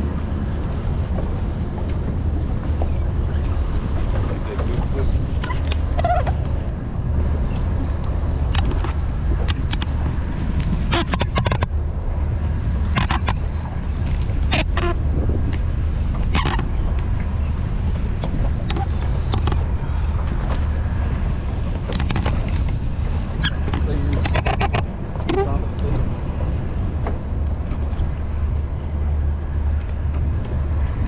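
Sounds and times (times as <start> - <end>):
strong wind buffeting microphone: 0.0 - 31.0.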